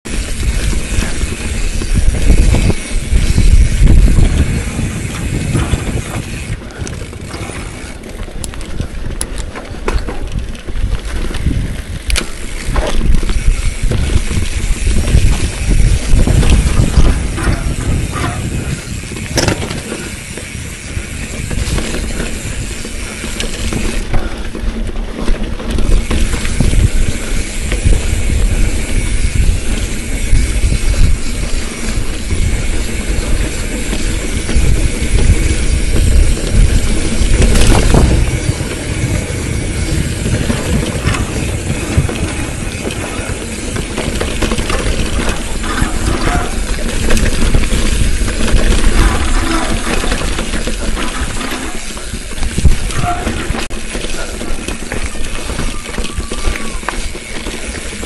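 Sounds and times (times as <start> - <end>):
bicycle rattling over bumps: 0.0 - 58.0
wind rumble on microphone: 0.0 - 58.0
bicycle freewheel clicks: 0.1 - 58.0.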